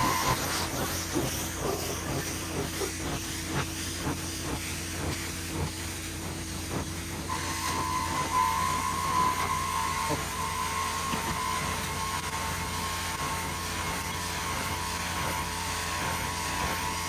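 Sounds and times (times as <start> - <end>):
high whine: 0.0 - 17.0
vacuum cleaner on carpet: 0.0 - 17.0.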